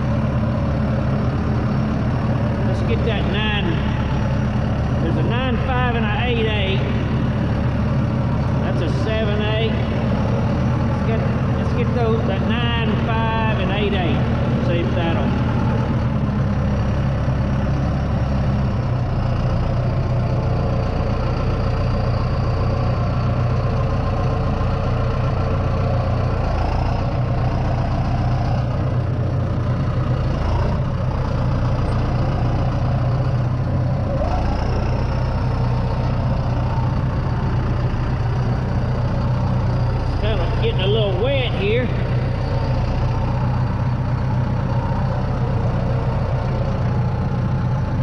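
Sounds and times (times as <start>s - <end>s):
heavy machine engine running: 0.0s - 48.0s.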